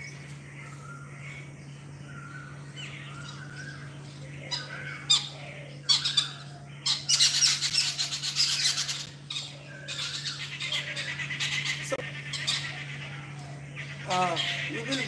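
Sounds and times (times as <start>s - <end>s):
birds chattering harshly: 0.0s - 15.0s
faint low hum: 0.0s - 15.0s.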